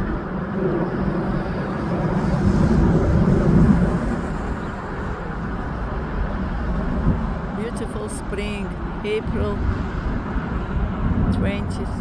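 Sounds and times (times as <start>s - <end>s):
airplane engine rumble: 0.0s - 12.0s.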